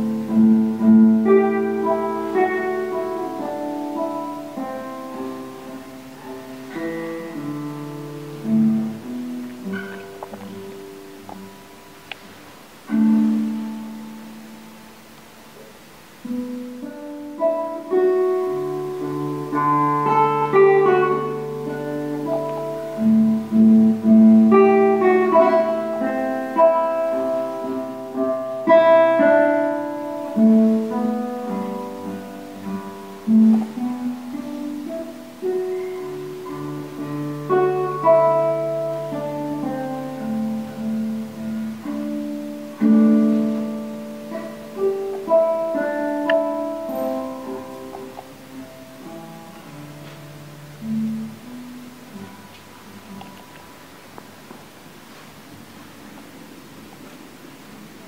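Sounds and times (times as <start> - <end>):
fingerpicked classical guitar: 0.0 - 58.0.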